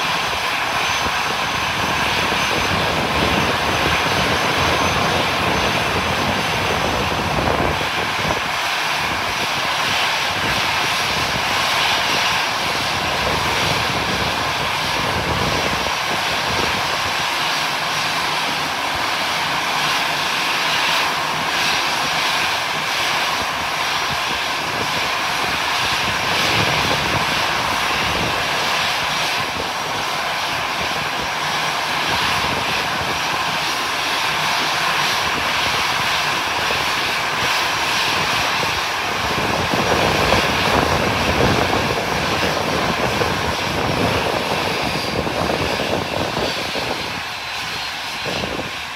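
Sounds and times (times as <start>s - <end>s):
aircraft engine hiss: 0.0s - 48.9s.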